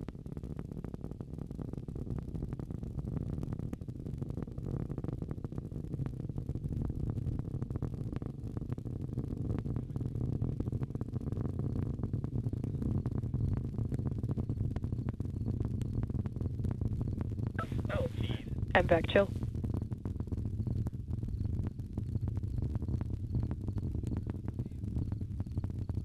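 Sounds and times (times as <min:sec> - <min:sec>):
rocket engines rumbling and crackling: 0:00.0 - 0:26.0.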